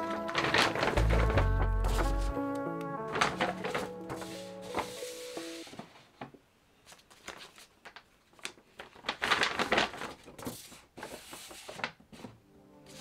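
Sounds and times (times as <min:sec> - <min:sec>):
paper bags rustling: 0:00.0 - 0:12.3.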